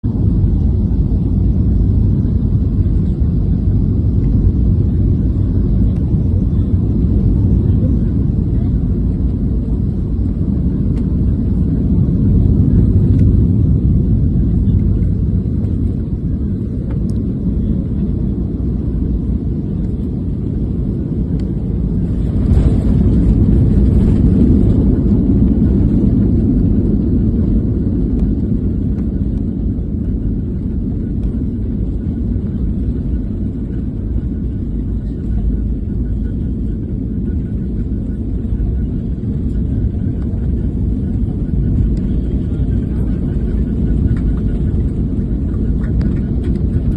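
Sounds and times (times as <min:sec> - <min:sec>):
airliner engine rumble: 0:00.0 - 0:46.9.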